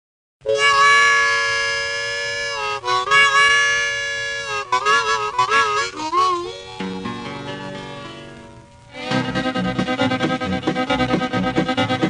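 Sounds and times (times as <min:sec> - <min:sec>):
harmonica playing: 0:00.4 - 0:12.0
fiddle: 0:00.5 - 0:12.0.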